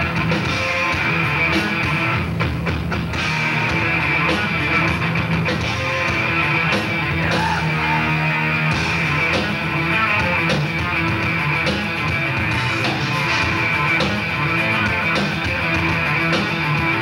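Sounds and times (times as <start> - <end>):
live heavy metal band: 0.0 - 17.0.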